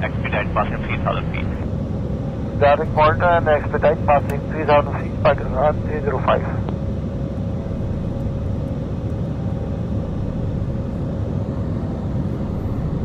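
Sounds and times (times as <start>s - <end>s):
aircraft engine rumble in cabin: 0.0s - 13.0s
faint steady hum: 0.0s - 13.0s.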